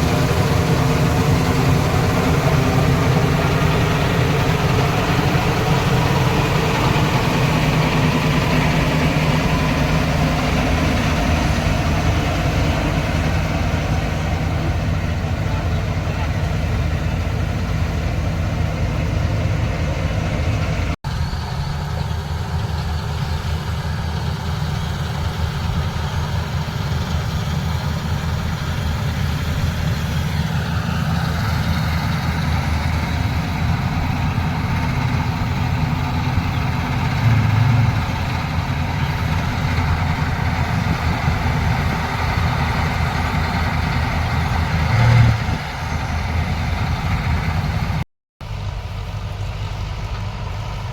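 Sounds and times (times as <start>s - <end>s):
combine harvester engine running: 0.0s - 50.9s.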